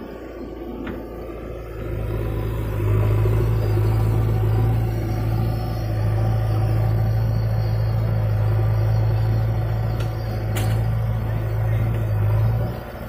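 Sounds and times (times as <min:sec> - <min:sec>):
backhoe loader diesel engine: 0:00.0 - 0:13.0
tractor diesel engine: 0:00.0 - 0:13.0.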